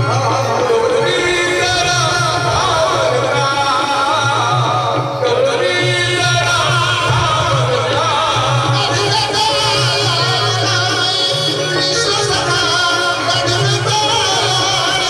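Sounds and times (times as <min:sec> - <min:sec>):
instrumental accompaniment: 0:00.0 - 0:15.0
person singing over loudspeakers: 0:00.0 - 0:15.0.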